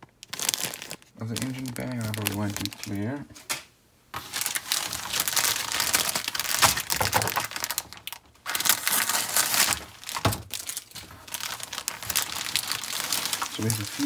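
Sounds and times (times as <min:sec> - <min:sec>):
plastic bag crinkling: 0:00.0 - 0:03.2, 0:04.2 - 0:14.0.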